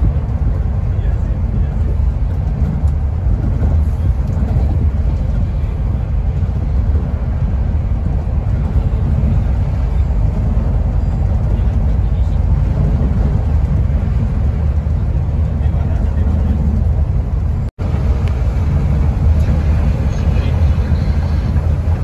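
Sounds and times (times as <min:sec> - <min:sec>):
coach engine and road drone: 0:00.0 - 0:22.0.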